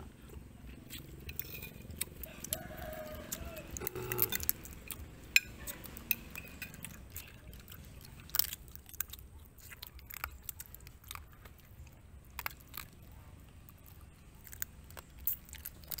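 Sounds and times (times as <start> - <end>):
crab shell crunching while chewing: 0.3 - 16.0.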